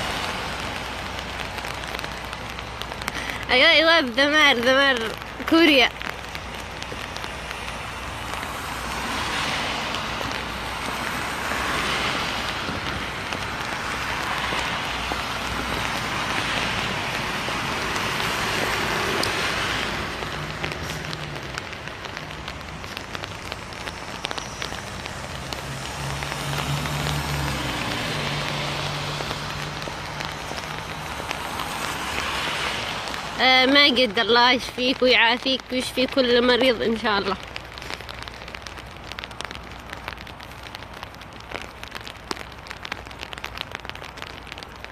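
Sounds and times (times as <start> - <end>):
light rain falling: 0.0 - 44.9
tyres hissing on wet road: 0.0 - 44.9.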